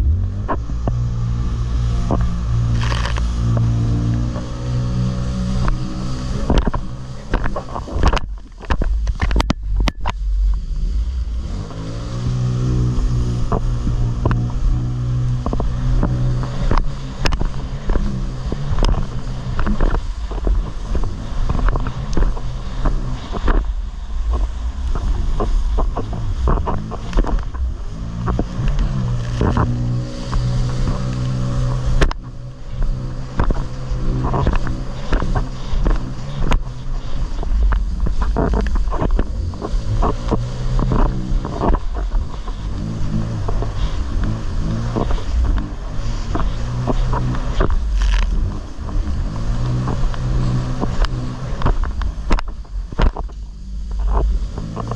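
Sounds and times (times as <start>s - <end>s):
hull slapping on waves: 0.0s - 54.9s
jet ski engine revving: 0.0s - 54.9s.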